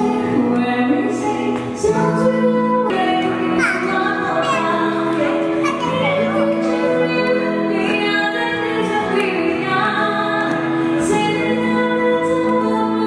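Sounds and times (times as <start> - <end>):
instrumental accompaniment: 0.0 - 13.0
woman singing into microphone: 0.0 - 13.0.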